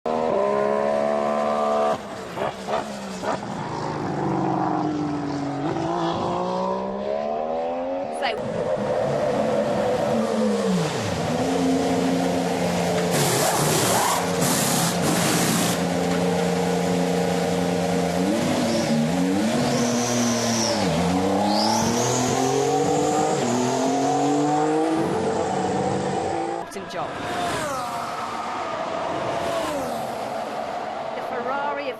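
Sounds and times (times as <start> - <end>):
racing car engine running: 0.0 - 31.9.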